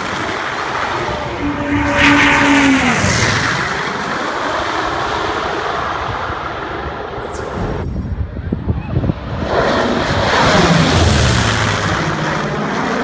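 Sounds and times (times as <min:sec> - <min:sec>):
radial engines and propellers: 0:00.0 - 0:13.0.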